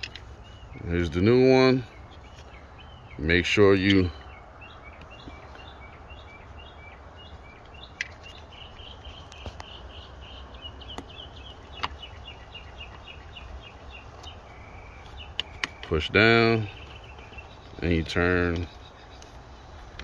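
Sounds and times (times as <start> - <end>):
bird chirping: 0.0 - 20.0
low outdoor rumble: 0.0 - 20.0.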